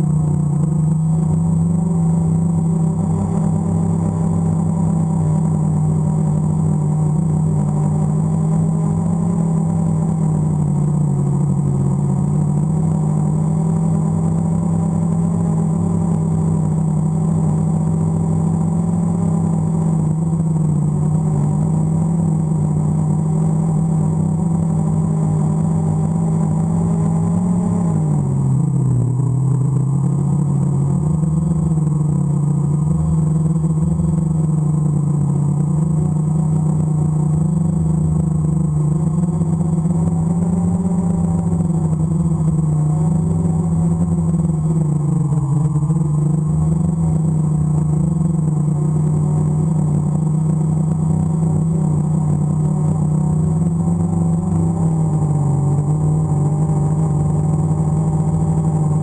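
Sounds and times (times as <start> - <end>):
drone propellers droning: 0.0 - 59.0.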